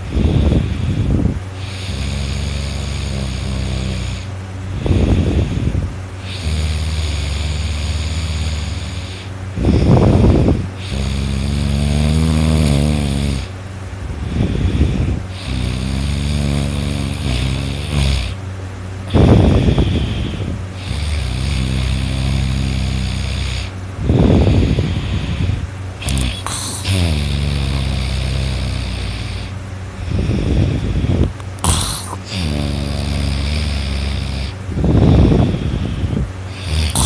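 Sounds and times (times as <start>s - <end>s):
person snoring loudly: 0.0s - 13.6s, 14.2s - 18.4s, 19.1s - 37.0s
pitched droning breaths: 0.0s - 37.0s
steady low hum: 0.0s - 37.0s.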